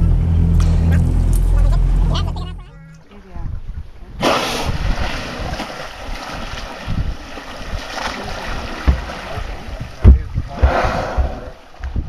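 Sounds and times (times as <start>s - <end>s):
sea water washing alongside boat: 0.0s - 12.0s
wind buffeting microphone: 0.9s - 12.0s.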